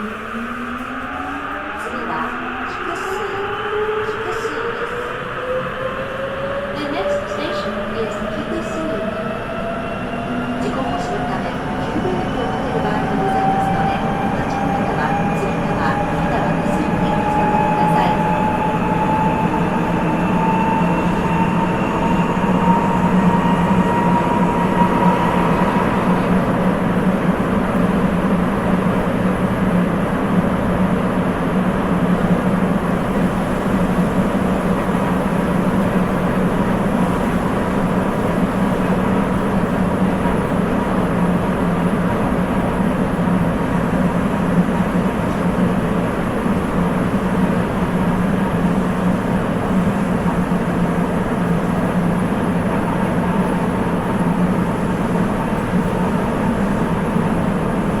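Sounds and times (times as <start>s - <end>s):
train rolling noise: 0.0s - 58.0s.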